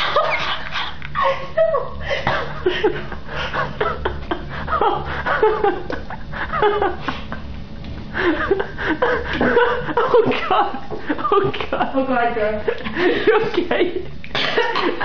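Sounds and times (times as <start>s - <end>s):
people laughing and giggling: 0.0s - 15.0s
steady low hum: 0.0s - 15.0s.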